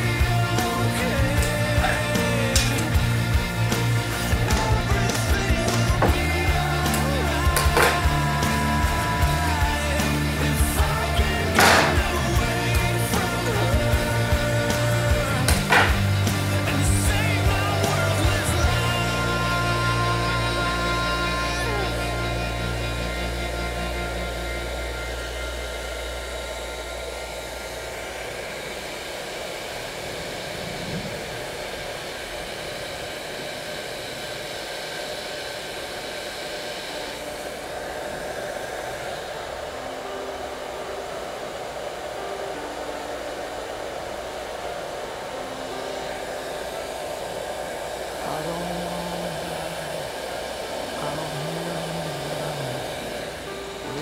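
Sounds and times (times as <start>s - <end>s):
heat gun blowing: 0.0s - 54.0s.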